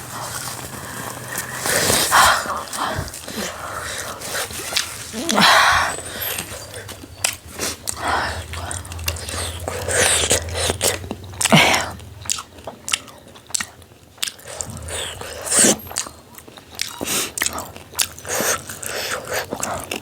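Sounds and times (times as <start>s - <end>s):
wet chewing and biting: 0.0s - 20.0s
mouth clicks and smacks: 0.1s - 20.0s.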